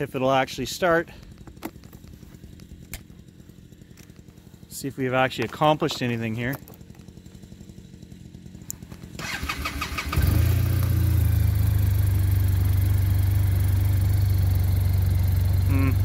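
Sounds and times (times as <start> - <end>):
snowmobile engine starting and idling: 0.0 - 16.0.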